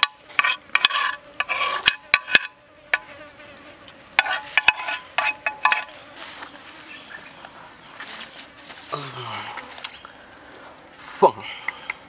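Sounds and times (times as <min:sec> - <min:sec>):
insects buzzing and chirping: 0:00.0 - 0:12.0.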